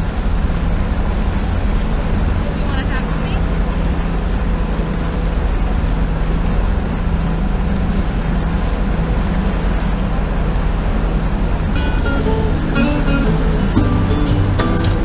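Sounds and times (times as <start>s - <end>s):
motorboat engine drone: 0.0s - 15.0s
water rushing along hull: 0.0s - 15.0s.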